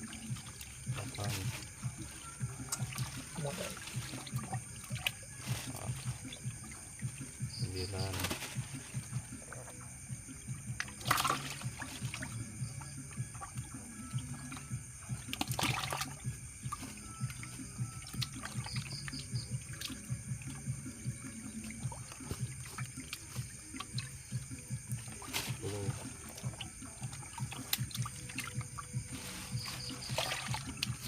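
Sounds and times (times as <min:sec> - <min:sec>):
water splashing and dribbling: 0:00.0 - 0:31.0.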